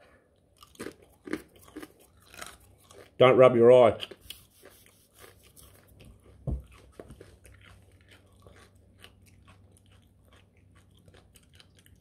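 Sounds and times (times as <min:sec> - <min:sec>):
person chewing crunchy chips: 0:00.3 - 0:12.0.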